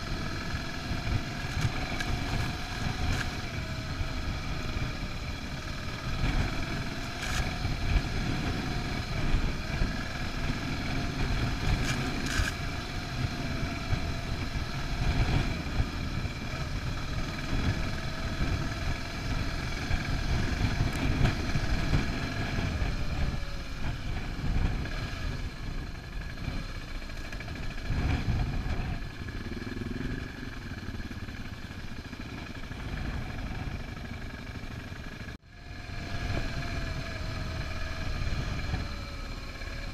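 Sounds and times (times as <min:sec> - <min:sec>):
motorcycle engine running: 0:00.0 - 0:39.9
wind and track rumble: 0:00.0 - 0:39.9.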